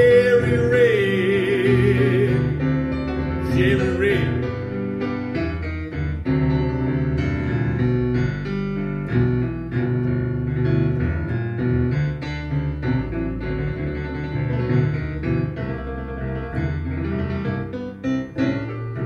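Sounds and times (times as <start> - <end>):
boogie-woogie piano playing: 0.0 - 19.0.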